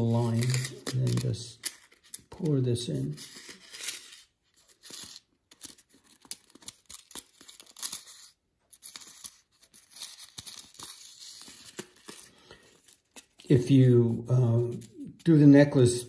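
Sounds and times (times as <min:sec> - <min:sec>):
card rustling and scraping: 0:00.0 - 0:15.4.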